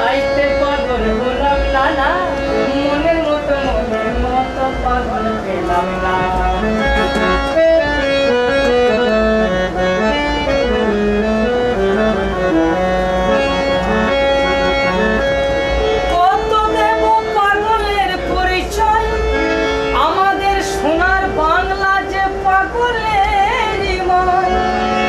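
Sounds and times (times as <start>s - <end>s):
harmonium melody: 0.0s - 25.0s.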